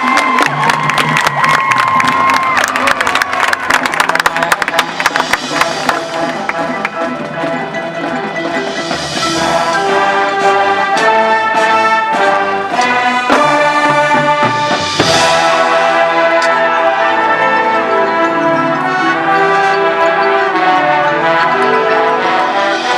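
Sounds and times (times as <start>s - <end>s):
percussion hits: 0.0s - 22.9s
brass chords: 2.8s - 22.9s.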